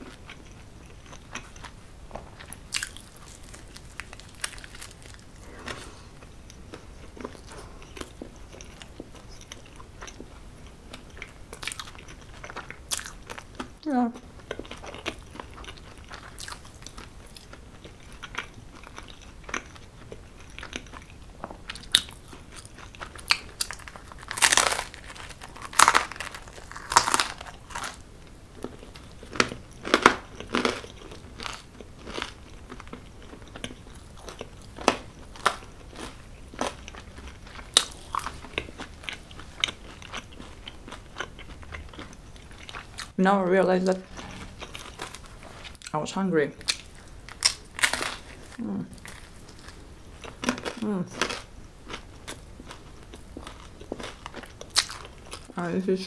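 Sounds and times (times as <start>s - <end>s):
person crunching pizza crust: 2.4s - 13.7s, 14.5s - 43.1s, 46.6s - 55.5s.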